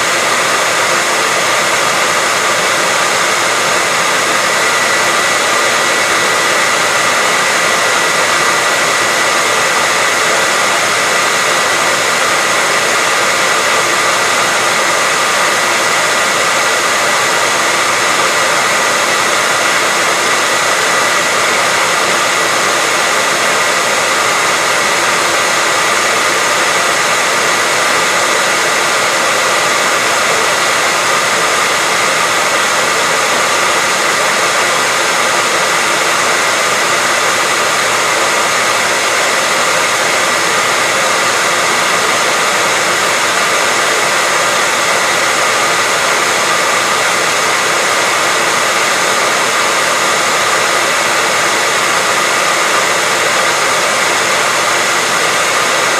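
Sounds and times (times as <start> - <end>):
hair dryer blowing: 0.0 - 55.9.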